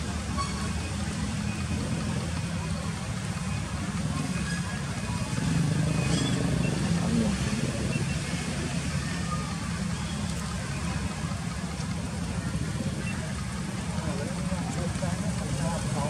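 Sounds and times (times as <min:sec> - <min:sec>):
faint voices: 0:00.0 - 0:16.0.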